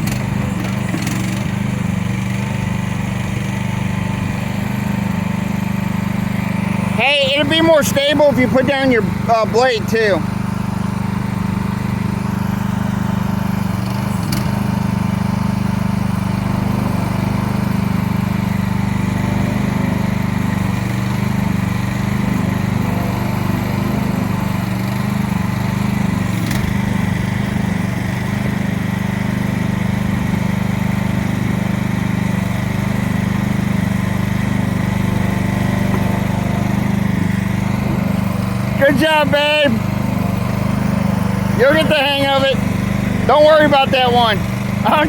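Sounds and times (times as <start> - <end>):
small engine humming: 0.0 - 45.0.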